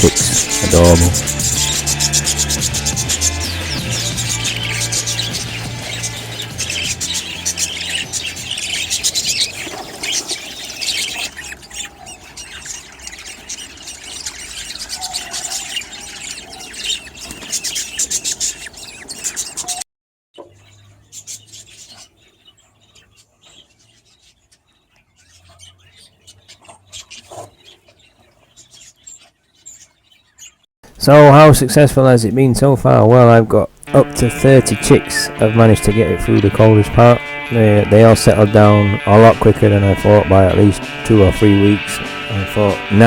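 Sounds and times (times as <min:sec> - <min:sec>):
budgerigars chirping and chattering: 0:00.0 - 0:19.8, 0:20.4 - 0:43.0.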